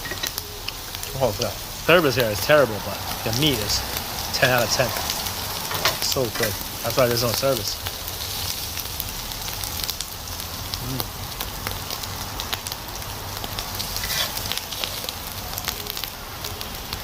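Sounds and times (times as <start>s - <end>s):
fat crackling and popping: 0.0s - 17.0s
meat sizzling on a grill: 0.0s - 17.0s.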